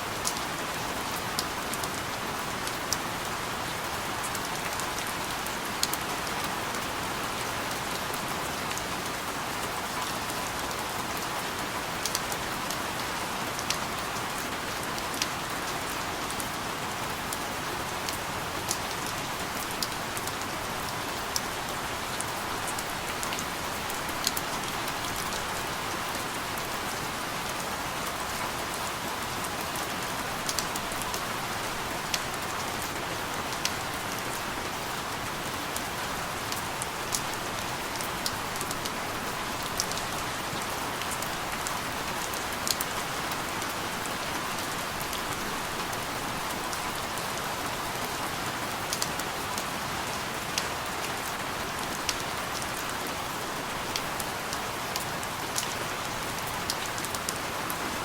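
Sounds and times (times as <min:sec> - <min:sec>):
steady rain hiss: 0:00.0 - 0:58.0
raindrops ticking on a surface: 0:00.2 - 0:07.0, 0:07.7 - 0:57.8.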